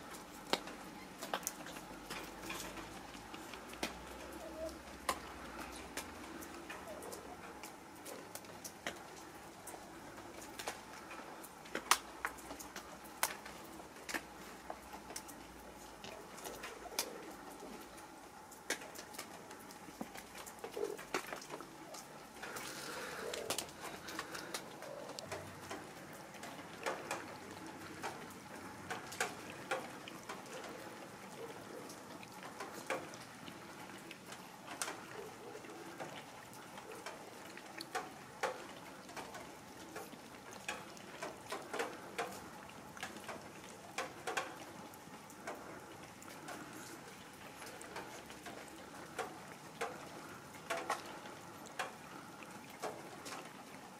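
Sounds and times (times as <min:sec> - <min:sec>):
cats chewing and licking: 0:00.0 - 0:53.9.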